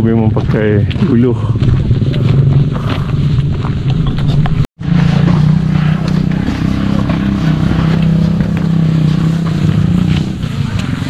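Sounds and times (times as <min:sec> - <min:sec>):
small motorcycle engine running: 0:01.6 - 0:11.0.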